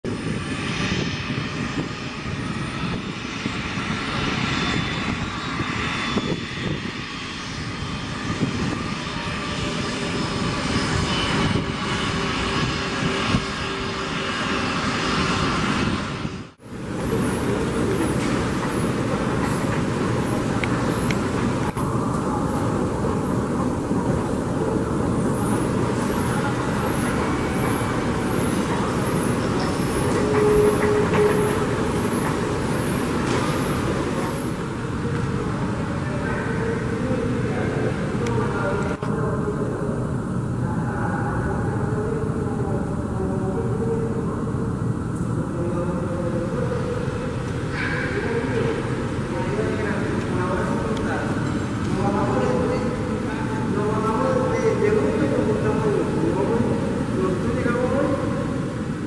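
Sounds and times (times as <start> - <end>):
steady background noise: 0.0 - 59.0
turbofan engines running: 0.0 - 59.0.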